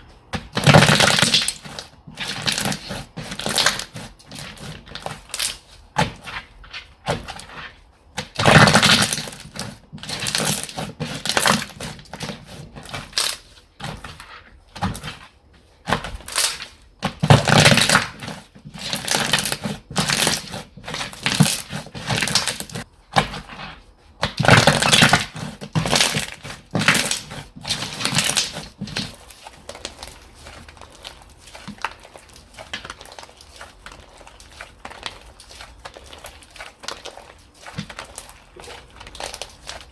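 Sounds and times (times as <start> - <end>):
hands squishing slime: 0.0 - 39.9.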